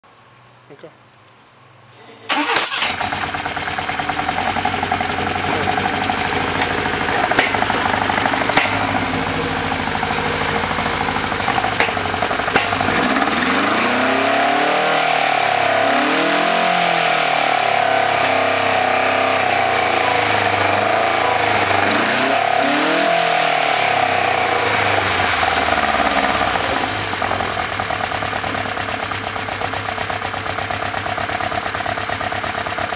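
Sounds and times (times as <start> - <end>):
car engine idling and revving: 2.3 - 32.9.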